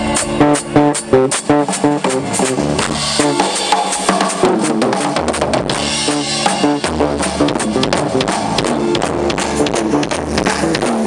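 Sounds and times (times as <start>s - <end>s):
heavy bass: 0.0s - 11.0s
live rock band playing: 0.0s - 11.0s.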